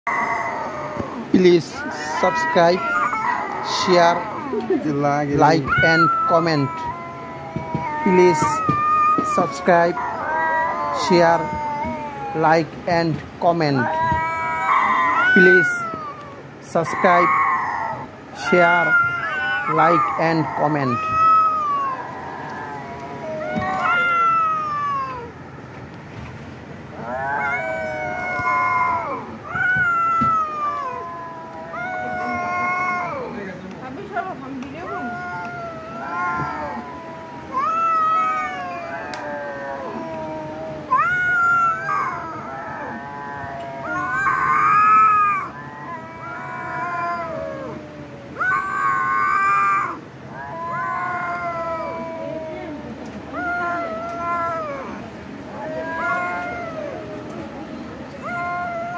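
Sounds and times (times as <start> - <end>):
kitten meowing: 0.1 - 12.7, 13.6 - 25.4, 27.0 - 33.4, 34.7 - 55.0.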